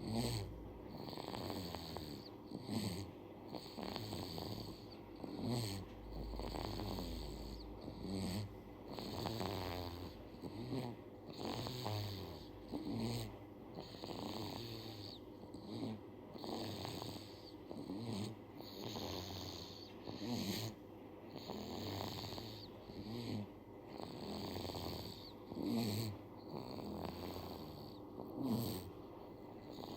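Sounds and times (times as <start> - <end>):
baby snoring: 0.0 - 29.9.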